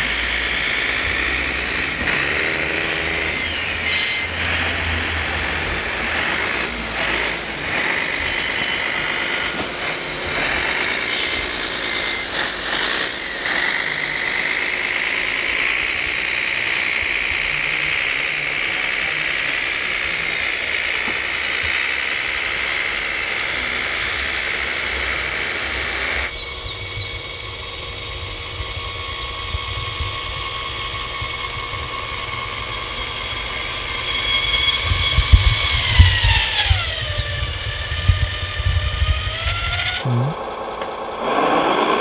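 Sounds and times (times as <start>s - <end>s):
electric motor whining: 0.0s - 42.0s.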